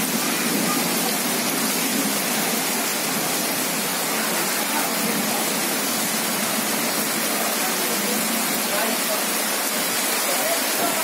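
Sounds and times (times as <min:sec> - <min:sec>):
heavy rain on water: 0:00.0 - 0:11.0.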